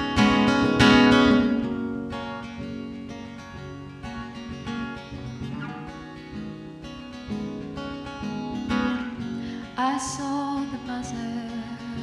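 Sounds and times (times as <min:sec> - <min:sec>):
acoustic guitar strummed chords: 0:00.0 - 0:12.0.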